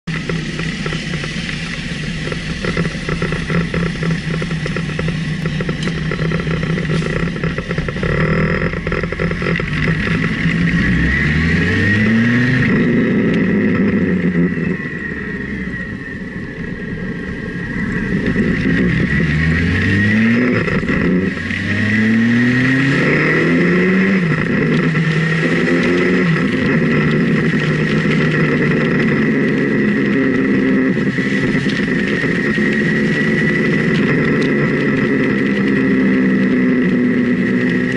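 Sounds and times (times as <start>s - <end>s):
motorcycle engine accelerating: 0.0s - 37.9s
wind and road noise: 0.0s - 37.9s.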